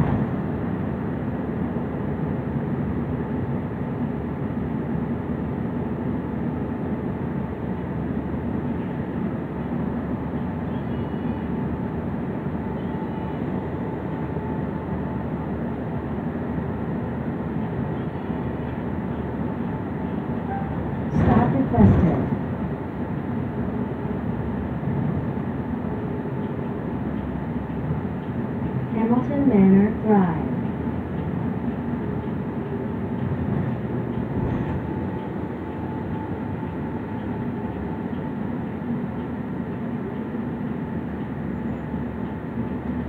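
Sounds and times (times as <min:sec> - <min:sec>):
bus engine and road hum: 0:00.0 - 0:43.0.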